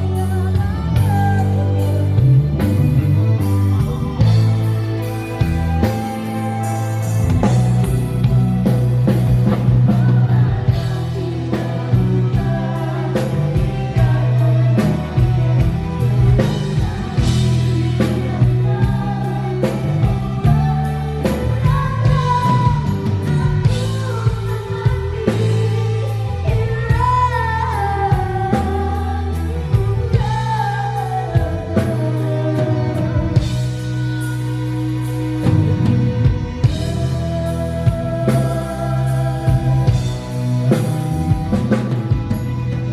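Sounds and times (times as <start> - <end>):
person singing: 0.0 - 42.5
rock band playing: 0.0 - 42.9.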